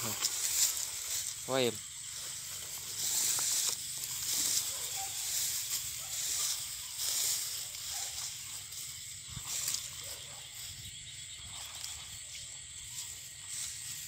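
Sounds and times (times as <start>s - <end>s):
feet rustling through dry grass: 0.0s - 14.0s.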